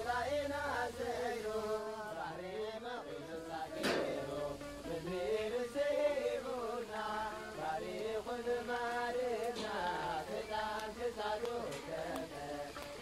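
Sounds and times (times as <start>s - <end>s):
person singing chant-like melody: 0.0s - 13.0s.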